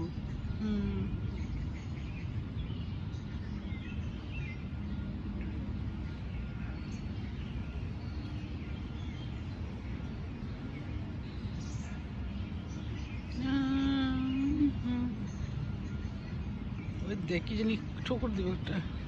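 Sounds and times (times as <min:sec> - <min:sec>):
faint small birds chirping: 0:00.0 - 0:19.0
steady low rumble: 0:00.0 - 0:19.0.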